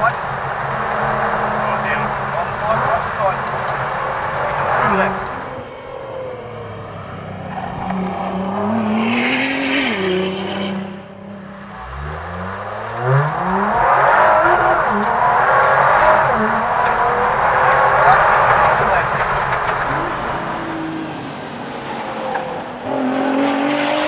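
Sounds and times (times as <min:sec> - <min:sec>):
race car engine accelerating: 0:00.0 - 0:24.0
car passing by: 0:00.3 - 0:24.0.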